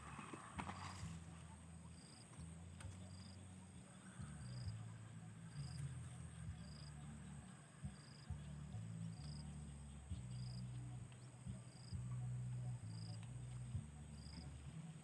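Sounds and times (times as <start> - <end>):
insect chirping: 0.0 - 15.0
low rumbling noise: 0.0 - 15.0.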